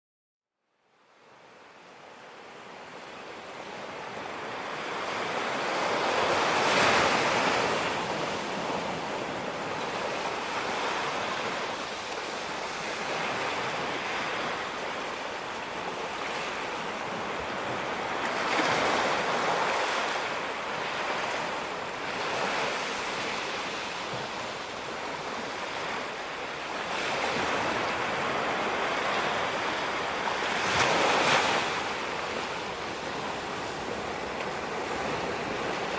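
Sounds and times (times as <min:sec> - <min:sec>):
ocean surf washing onto beach: 0:01.4 - 0:35.9.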